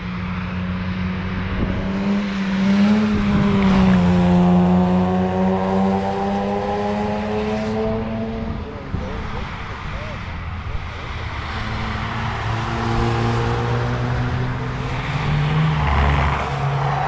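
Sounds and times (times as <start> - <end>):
race car passing and accelerating: 0.0 - 17.0.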